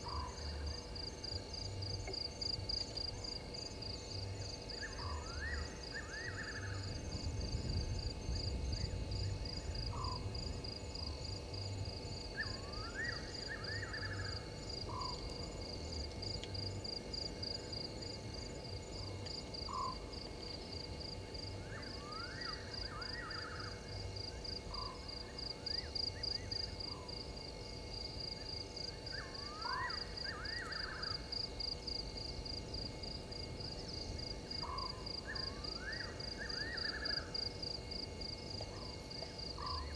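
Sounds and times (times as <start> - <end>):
crickets chorus: 0.0 - 39.9.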